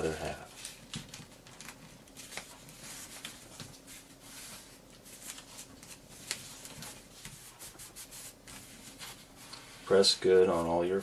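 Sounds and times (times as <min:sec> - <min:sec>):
paper crackle: 0:00.0 - 0:09.5
paper being folded: 0:00.0 - 0:09.8.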